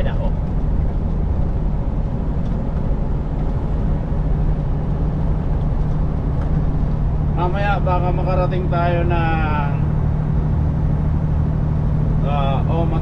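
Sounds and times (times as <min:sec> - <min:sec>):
diesel truck engine running: 0:00.0 - 0:13.0
low steady hum: 0:00.0 - 0:13.0
road noise: 0:00.0 - 0:13.0.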